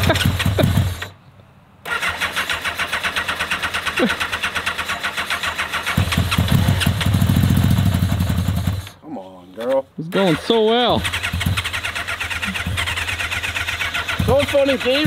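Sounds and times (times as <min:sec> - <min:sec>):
motorcycle electric starter cranking: 0:00.0 - 0:01.2, 0:01.8 - 0:09.0, 0:10.1 - 0:15.0
motorcycle engine firing unevenly: 0:00.0 - 0:01.2, 0:01.9 - 0:09.0, 0:10.3 - 0:15.0.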